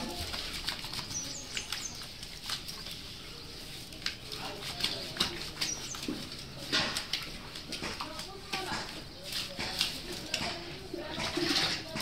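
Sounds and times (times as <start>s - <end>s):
hands patting wet dog coat: 0.0s - 12.0s
water splashing on concrete floor: 0.0s - 12.0s.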